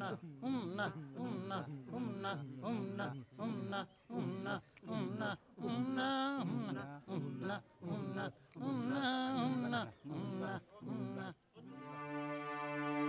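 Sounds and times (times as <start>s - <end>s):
person chanting sing-song: 0.0s - 12.0s.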